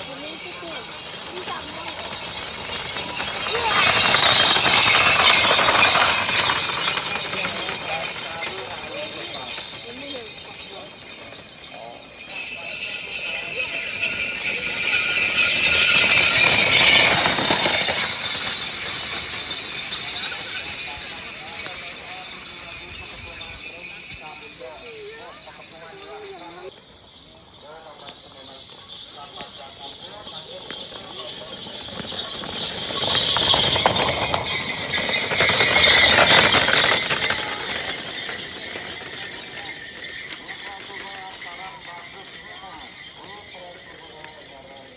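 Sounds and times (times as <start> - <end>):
bells jangling: 0.0 - 44.9
cart rattling: 0.0 - 44.9
pounding hooves: 0.0 - 44.9
water buffalo hoofbeats: 0.0 - 44.9.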